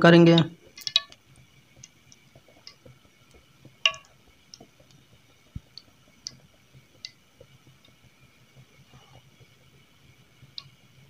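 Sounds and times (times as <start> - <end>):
oil ticking in pan: 0.0 - 11.0.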